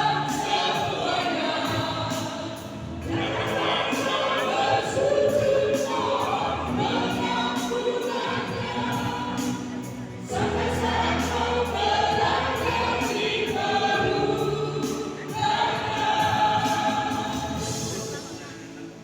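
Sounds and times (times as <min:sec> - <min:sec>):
choir singing in parts: 0:00.0 - 0:19.0.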